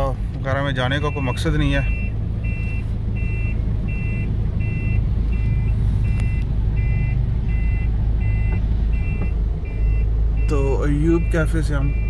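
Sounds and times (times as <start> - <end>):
vehicle engine running: 0.0 - 12.0
reversing beeper: 1.0 - 12.0.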